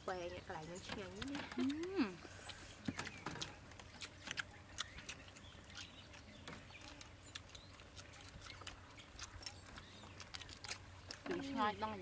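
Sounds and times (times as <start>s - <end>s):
people chewing: 0.5s - 12.0s.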